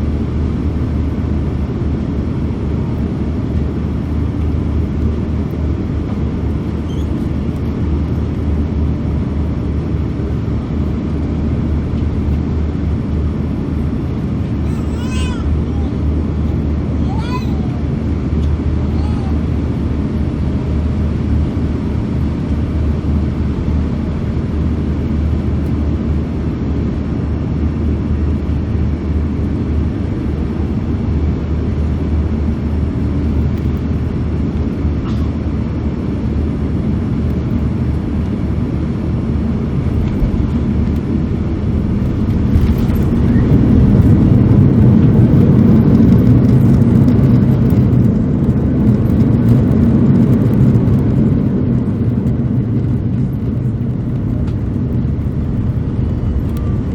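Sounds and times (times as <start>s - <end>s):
aircraft cabin engine rumble: 0.0s - 56.9s.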